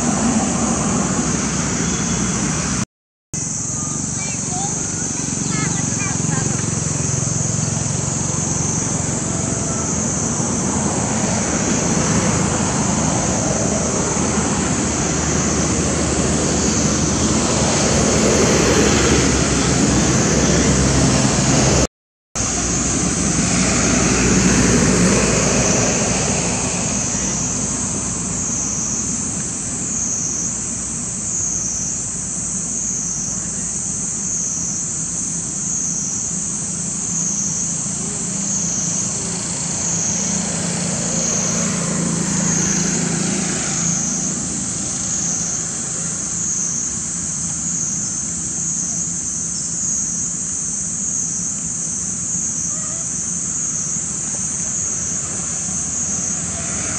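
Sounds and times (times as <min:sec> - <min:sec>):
high-pitched insect chorus: 0:00.0 - 0:02.8, 0:03.4 - 0:56.9
low distant engine hum: 0:03.4 - 0:56.9.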